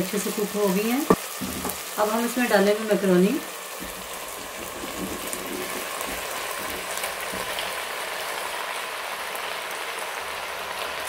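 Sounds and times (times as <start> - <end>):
stir-fry sizzling in a pan: 0.0 - 11.0.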